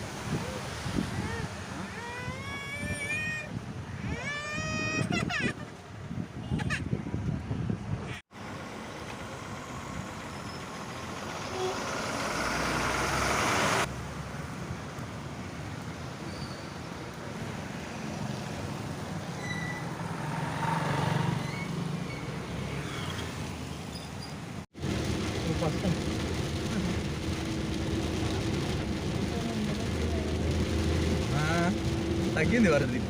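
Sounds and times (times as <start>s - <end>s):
vehicle road and engine noise: 0.0s - 33.0s.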